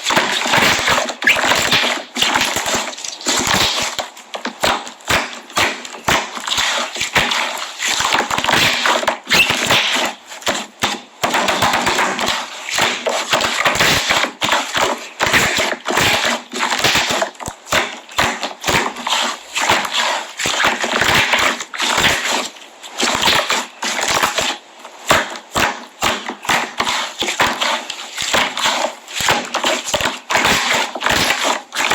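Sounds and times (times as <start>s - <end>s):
wet slime squeezing: 0.0s - 11.0s, 11.6s - 31.9s.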